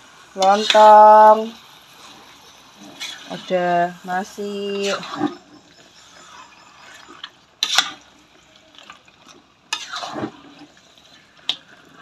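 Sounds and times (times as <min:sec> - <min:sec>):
metal spatula scraping wok: 0:00.4 - 0:12.0.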